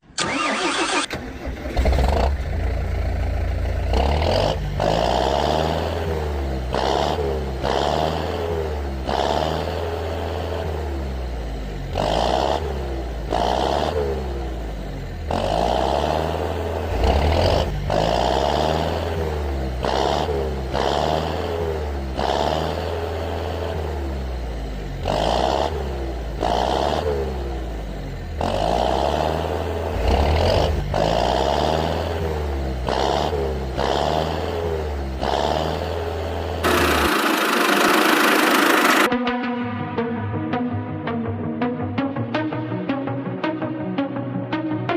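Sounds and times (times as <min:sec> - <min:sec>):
heavy vehicle engine revving: 0:00.2 - 0:39.1.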